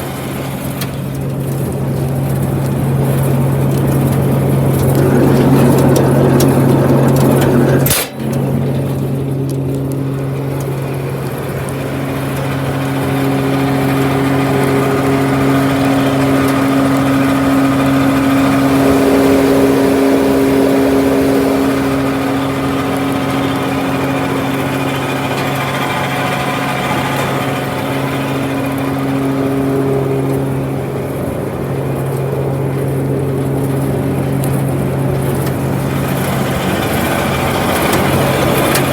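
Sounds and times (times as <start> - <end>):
tractor and mixer machinery hum: 0.0 - 38.9.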